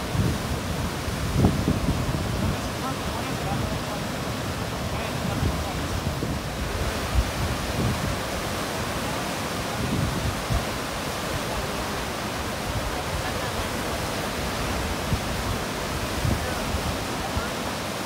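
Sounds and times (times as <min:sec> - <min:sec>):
rushing whitewater: 0:00.0 - 0:18.0.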